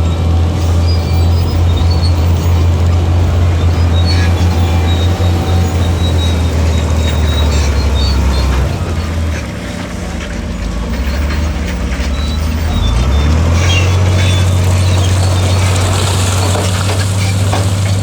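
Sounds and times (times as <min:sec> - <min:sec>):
heavy diesel engine droning: 0:00.0 - 0:18.0
short high squeaks: 0:00.6 - 0:09.4, 0:10.9 - 0:18.0.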